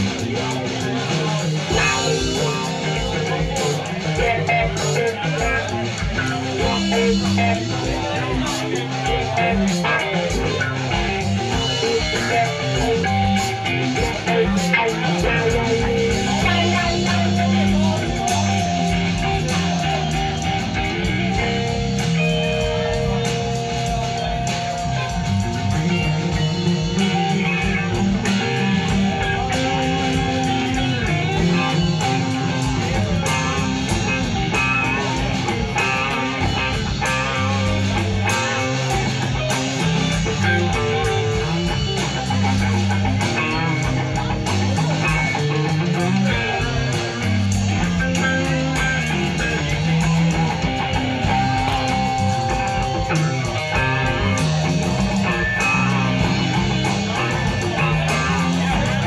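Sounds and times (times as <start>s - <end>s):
electric bass guitar: 0.0s - 59.0s
electric guitars playing: 0.0s - 59.0s.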